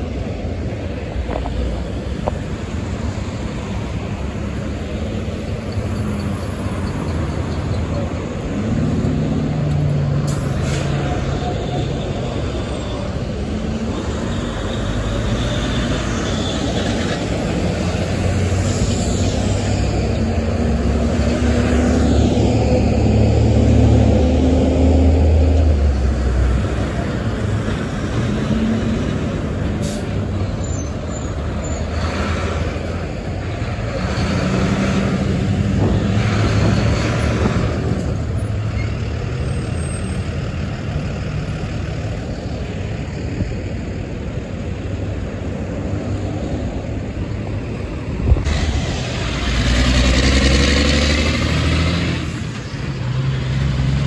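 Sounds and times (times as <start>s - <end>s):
traffic engine rumble: 0.0s - 54.0s.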